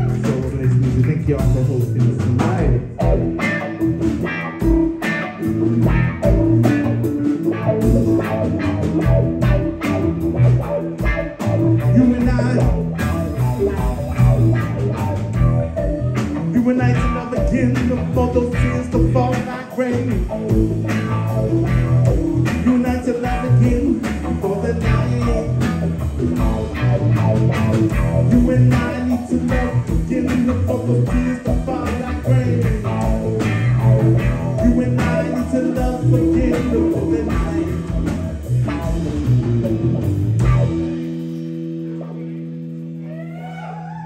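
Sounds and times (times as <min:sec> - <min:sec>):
drum kit: 0:00.0 - 0:43.7
electric bass guitar: 0:00.0 - 0:44.0
electric guitar: 0:00.0 - 0:44.0.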